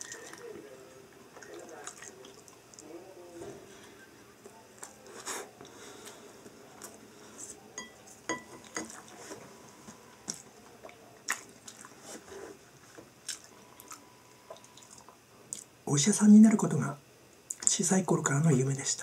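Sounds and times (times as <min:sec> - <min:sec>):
soft chewing: 0:00.0 - 0:15.8.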